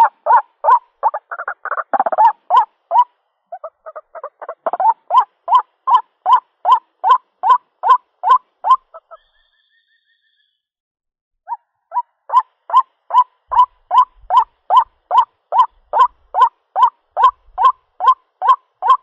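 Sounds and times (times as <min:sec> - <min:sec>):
waterhen calling: 0:00.0 - 0:09.6, 0:11.9 - 0:19.0.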